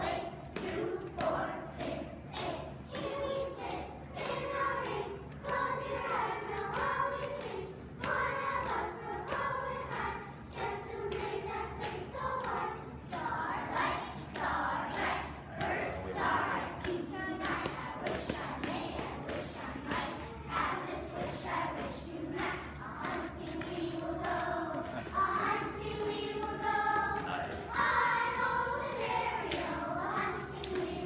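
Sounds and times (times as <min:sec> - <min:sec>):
children singing unaccompanied: 0:00.0 - 0:31.0.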